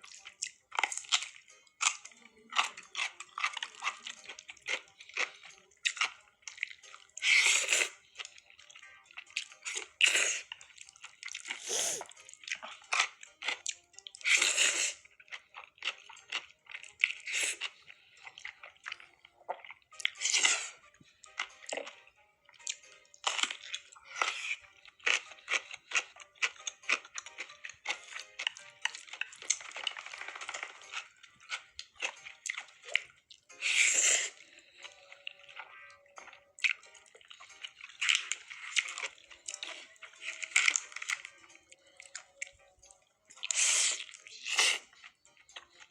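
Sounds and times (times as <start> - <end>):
crunching and wet chewing: 0.0 - 45.9.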